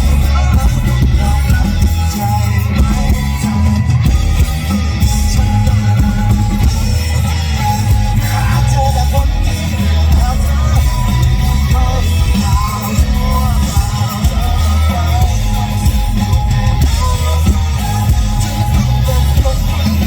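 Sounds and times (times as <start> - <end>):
bass guitar: 0.0 - 20.0
drums: 0.0 - 20.0
electric guitars: 0.0 - 20.0
person singing: 0.0 - 20.0.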